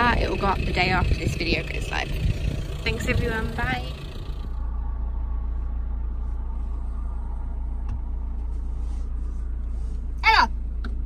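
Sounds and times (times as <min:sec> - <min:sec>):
van cabin rumble: 0:00.0 - 0:11.0.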